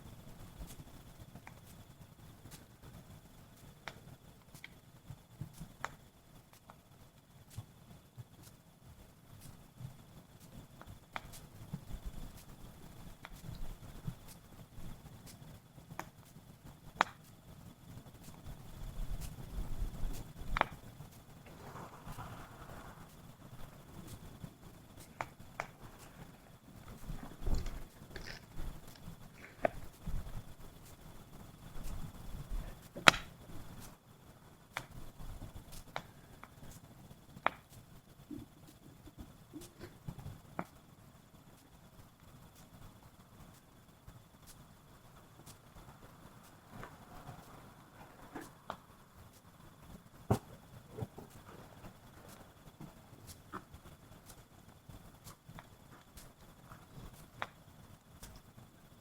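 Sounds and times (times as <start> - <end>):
wood fire popping: 0.0 - 59.0.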